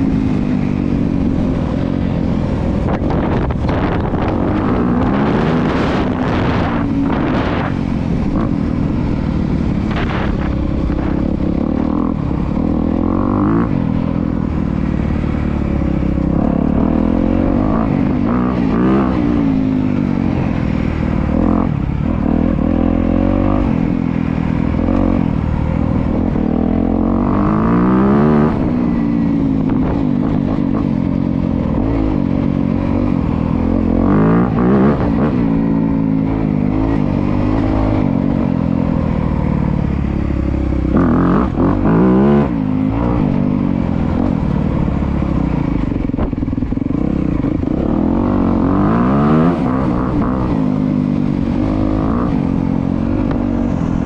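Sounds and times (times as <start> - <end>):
dirt bike engine revving: 1.2 - 54.0.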